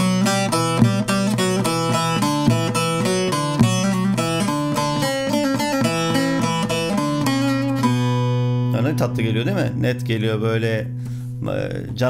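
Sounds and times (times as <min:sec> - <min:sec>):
plucked lute melody: 0:00.0 - 0:12.0.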